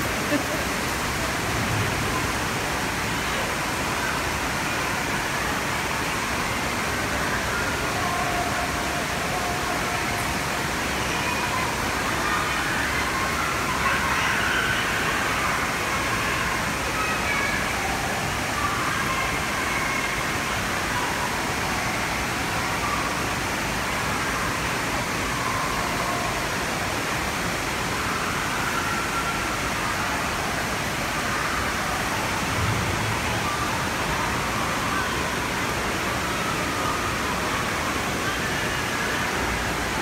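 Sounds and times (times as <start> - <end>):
indistinct crowd voices: 0.0 - 40.0
rushing water: 0.0 - 40.0.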